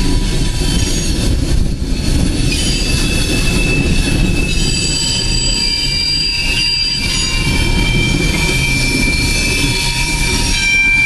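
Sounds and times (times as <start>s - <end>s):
steel wheels squealing: 0.0s - 1.4s, 2.1s - 11.0s
train cars rumbling on track: 0.0s - 11.0s.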